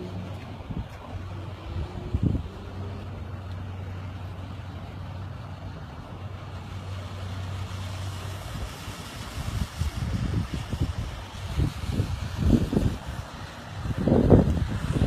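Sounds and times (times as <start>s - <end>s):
constant noise wash: 0.0s - 15.0s
vehicle engine humming: 0.0s - 15.0s.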